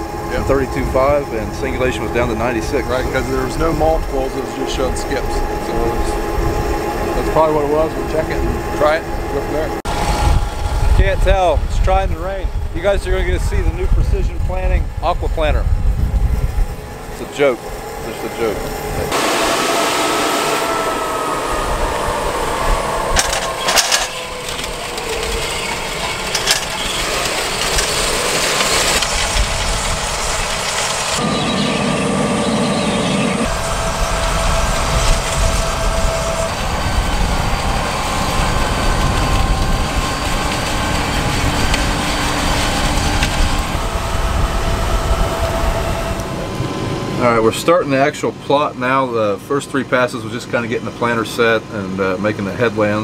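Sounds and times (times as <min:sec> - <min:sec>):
planter row units clattering: 0:00.0 - 0:15.5, 0:20.7 - 0:32.5, 0:33.4 - 0:49.2
tractor machinery running: 0:00.0 - 0:53.0.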